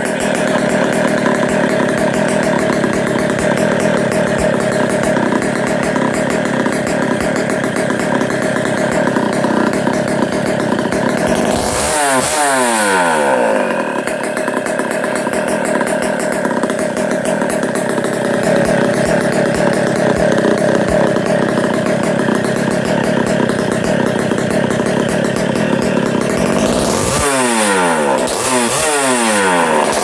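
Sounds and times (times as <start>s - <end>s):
kart engine running: 0.0s - 30.0s.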